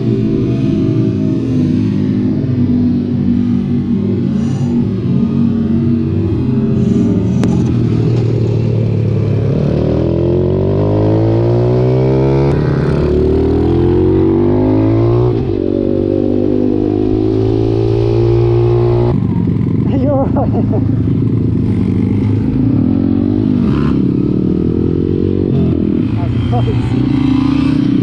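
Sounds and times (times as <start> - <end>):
motorbike engine revving: 0.0 - 28.0.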